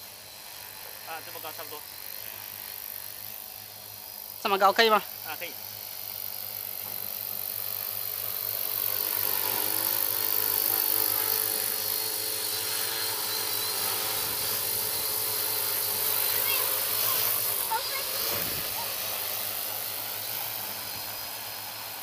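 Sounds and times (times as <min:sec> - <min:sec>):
drone propellers hovering: 0:00.0 - 0:22.0.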